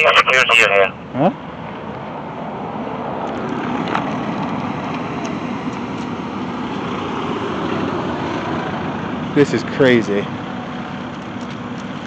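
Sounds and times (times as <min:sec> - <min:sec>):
car running: 0:00.0 - 0:12.0.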